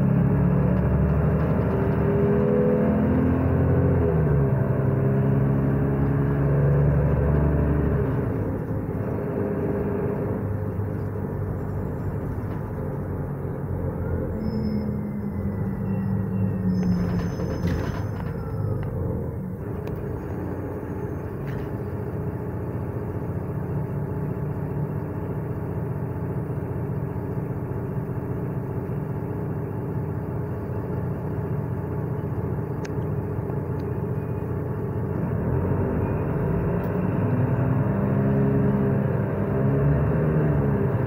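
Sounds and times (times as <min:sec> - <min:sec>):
bus engine running: 0:00.0 - 0:41.0.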